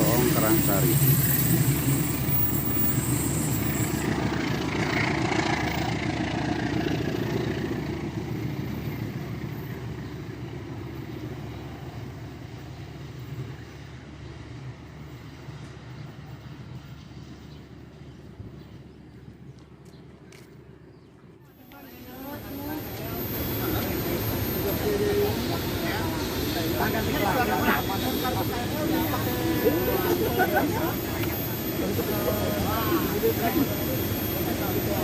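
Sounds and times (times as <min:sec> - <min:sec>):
passing train rumble: 0:00.0 - 0:35.0.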